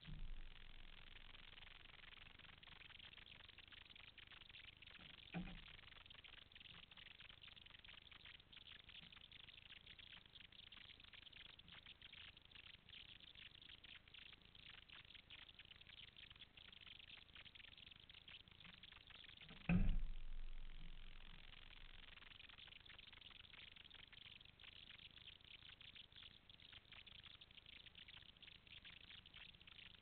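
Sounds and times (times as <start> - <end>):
faint crackling hiss: 0.0 - 30.0.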